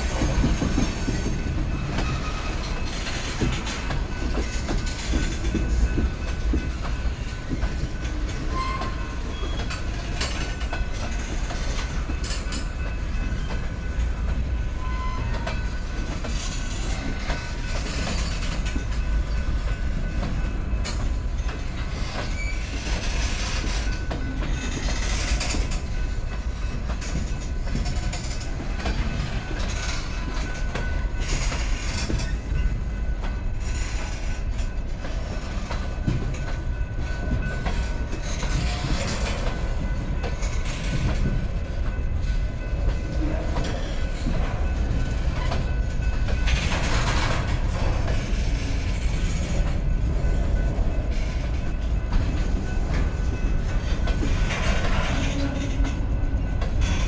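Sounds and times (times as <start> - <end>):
train wheels rumbling over rails: 0.0 - 57.0.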